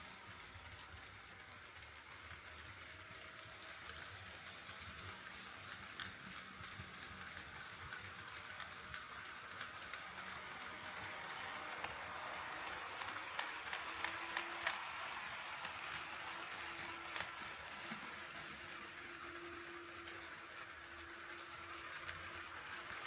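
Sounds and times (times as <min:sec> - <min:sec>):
model train rolling rumble: 0:00.0 - 0:23.0
wheels clicking on rail joints: 0:00.0 - 0:23.0.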